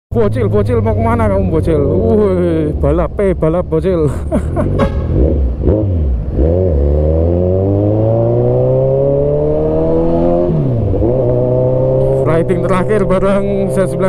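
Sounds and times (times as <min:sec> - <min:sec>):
motorcycle engine accelerating: 0:00.2 - 0:14.0.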